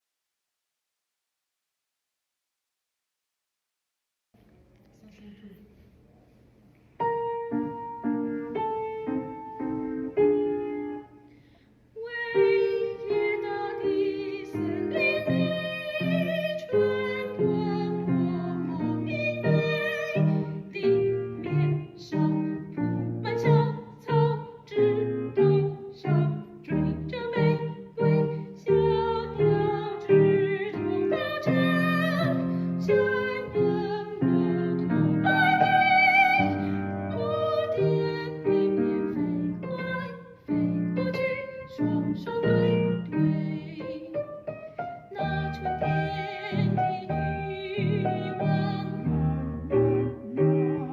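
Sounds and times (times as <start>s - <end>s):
piano chords: 7.0s - 11.2s, 12.0s - 50.9s
soprano singing: 7.1s - 11.2s, 12.0s - 50.9s.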